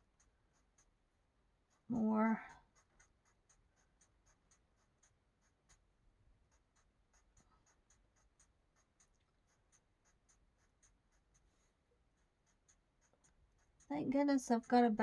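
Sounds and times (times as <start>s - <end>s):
marker strokes on paper: 1.8s - 15.0s.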